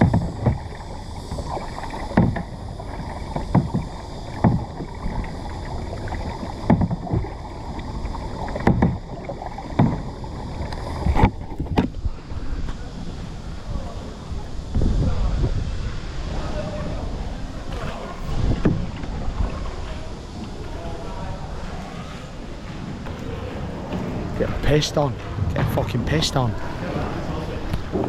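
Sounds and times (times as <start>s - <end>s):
kayak paddle splashing water: 0.0s - 28.0s.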